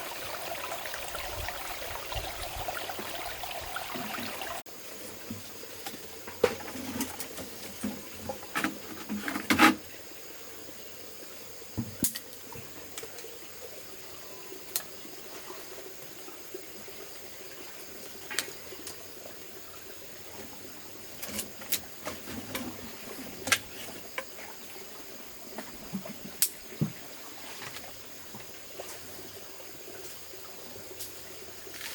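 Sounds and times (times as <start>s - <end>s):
water trickling and splashing: 0.0s - 31.9s.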